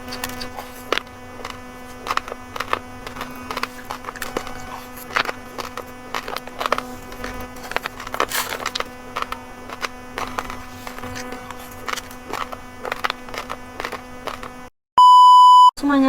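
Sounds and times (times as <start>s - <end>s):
low electrical hum: 0.0s - 14.7s
rice being chewed: 0.0s - 14.7s.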